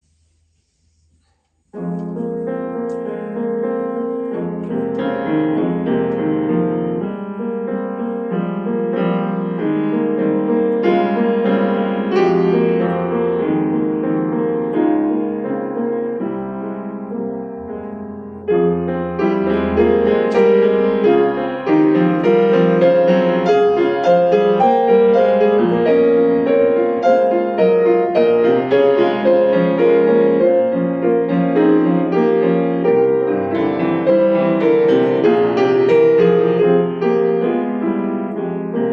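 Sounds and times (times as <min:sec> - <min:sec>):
solo piano piece: 0:00.0 - 0:38.9.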